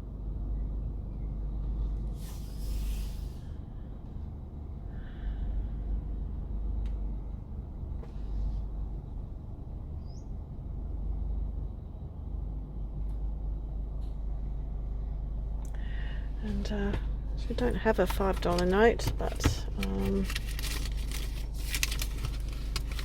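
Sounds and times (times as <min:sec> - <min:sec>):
car rumble: 0:00.0 - 0:23.0.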